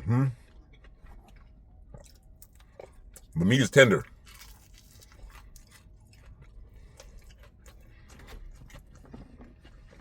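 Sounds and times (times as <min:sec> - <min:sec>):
person chewing crispy food: 0:00.4 - 0:10.0.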